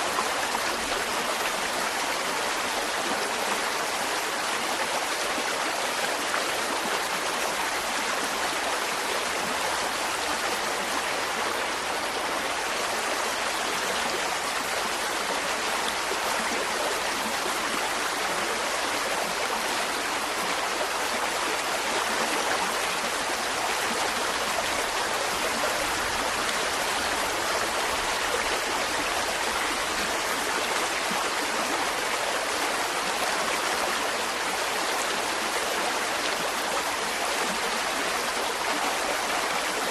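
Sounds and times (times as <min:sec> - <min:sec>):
stream water babbling over rocks: 0:00.0 - 0:39.9.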